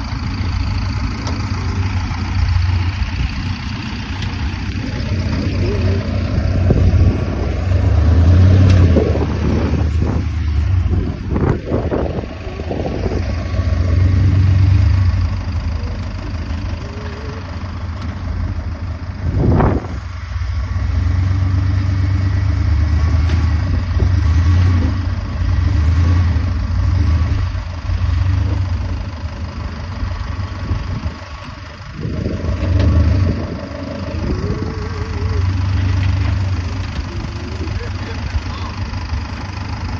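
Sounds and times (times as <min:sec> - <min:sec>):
motor vehicle engine rumbling: 0:00.0 - 0:39.9.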